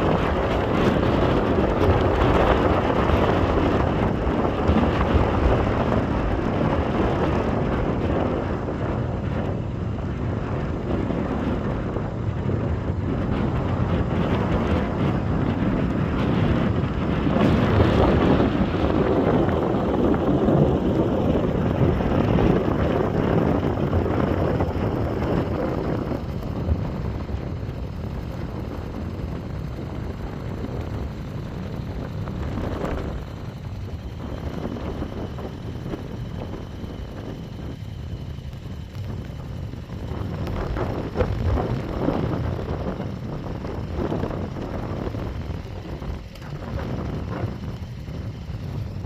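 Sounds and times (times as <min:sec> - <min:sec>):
motorcycle engine: 0:00.0 - 0:49.0
wind buffeting microphone: 0:00.0 - 0:49.0.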